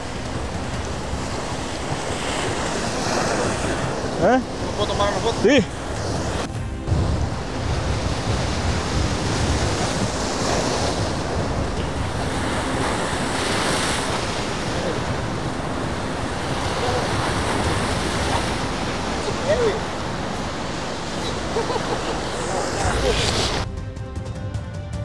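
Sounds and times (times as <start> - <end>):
ocean surf breaking on rocks: 0.0 - 23.6
wind buffeting microphone: 0.0 - 23.6.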